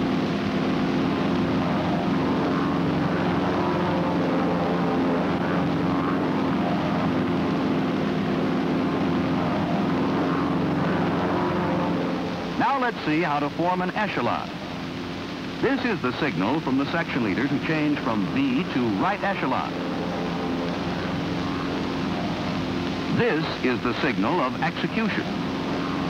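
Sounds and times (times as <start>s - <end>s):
propeller airplane engine droning: 0.0s - 26.0s.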